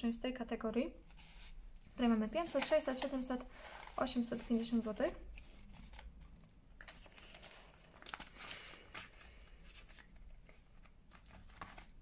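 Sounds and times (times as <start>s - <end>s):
plastic pages rustling and clicking: 2.0s - 12.0s.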